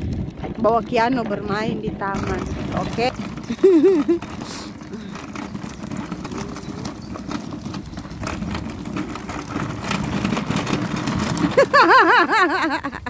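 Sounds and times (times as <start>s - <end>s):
wind rumbling on microphone: 0.0s - 11.7s.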